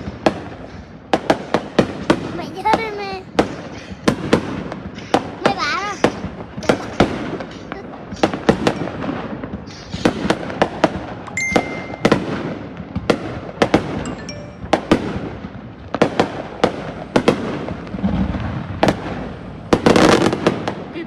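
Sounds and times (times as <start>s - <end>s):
distant fireworks crackle and rumble: 0.0s - 21.0s
fireworks bangs and cracks: 0.0s - 21.0s.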